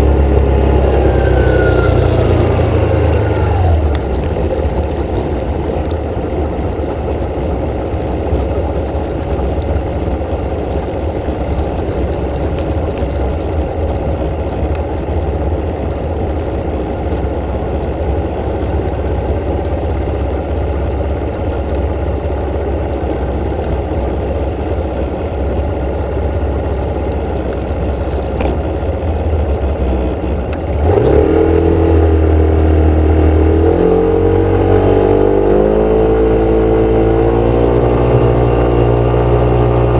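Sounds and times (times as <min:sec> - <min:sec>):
vehicle engine rumbling and revving: 0:00.0 - 0:39.9.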